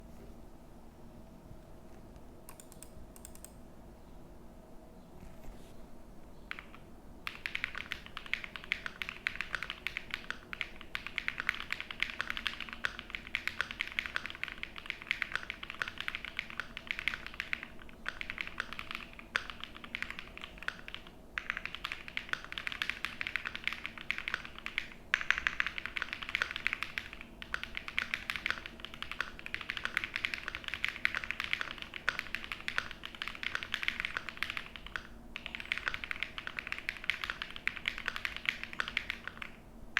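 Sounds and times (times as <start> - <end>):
mechanical keyboard typing: 2.5 - 3.6, 6.5 - 39.6.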